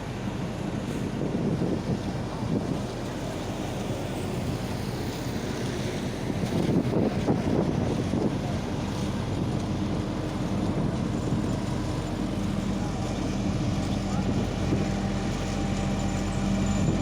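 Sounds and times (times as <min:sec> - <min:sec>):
road roller engine humming: 0:00.0 - 0:17.0
wind noise on microphone: 0:00.2 - 0:17.0.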